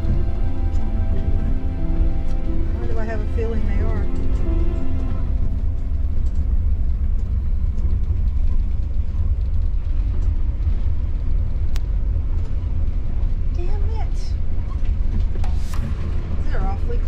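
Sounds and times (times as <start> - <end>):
vehicle rumble on dirt track: 0.0 - 17.0.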